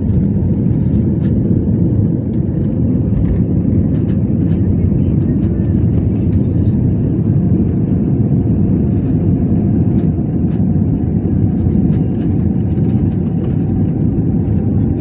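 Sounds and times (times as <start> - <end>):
aeroplane engine rumble in cabin: 0.0 - 15.0.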